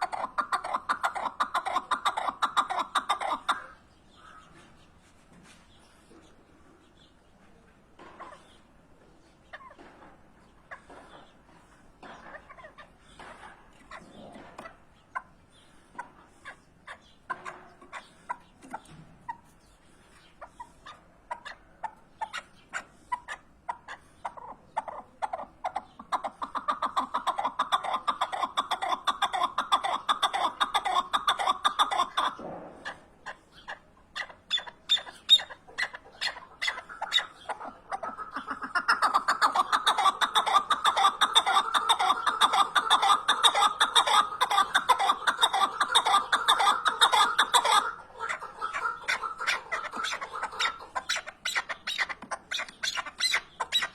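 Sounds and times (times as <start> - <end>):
partridge calling: 0.0 - 7.2, 10.5 - 53.9.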